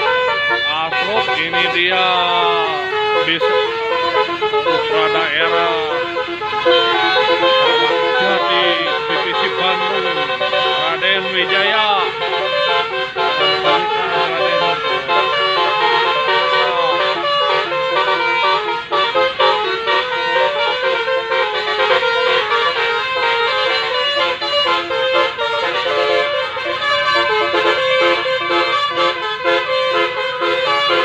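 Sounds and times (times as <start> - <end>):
multi-tone air horn melody: 0.0 - 31.0.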